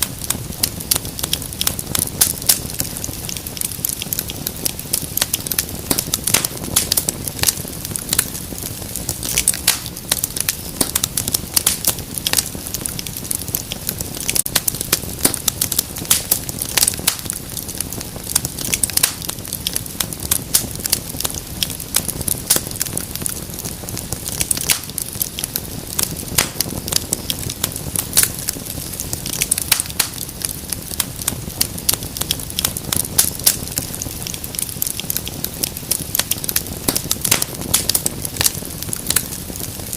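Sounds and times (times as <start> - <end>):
fireplace fire crackling: 0.0 - 39.9
low rumble of fire: 0.0 - 39.9.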